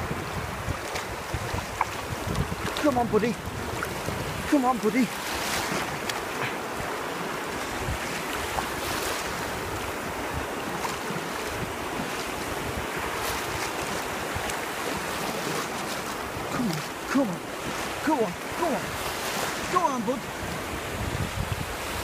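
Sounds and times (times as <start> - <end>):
surf washing over rocks: 0.0 - 22.0
wind buffeting microphone: 0.0 - 22.0.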